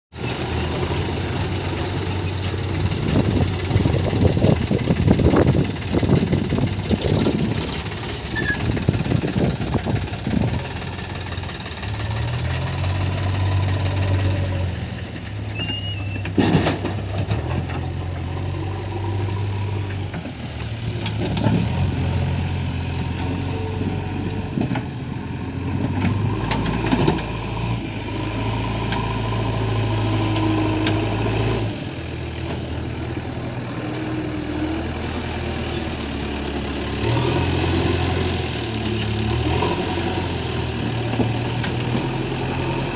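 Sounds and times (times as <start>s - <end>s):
diesel engine revving: 0.2s - 42.9s.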